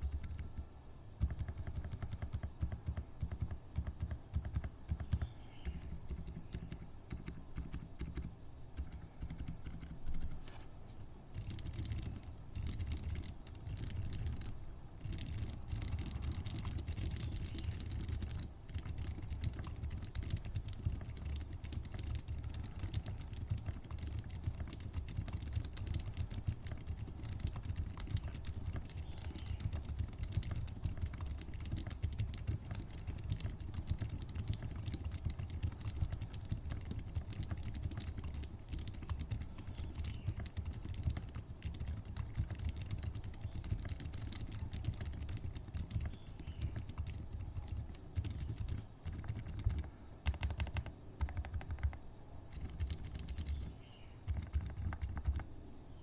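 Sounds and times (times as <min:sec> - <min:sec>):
typing on mechanical keyboard: 0:00.0 - 0:10.5, 0:11.3 - 0:55.5.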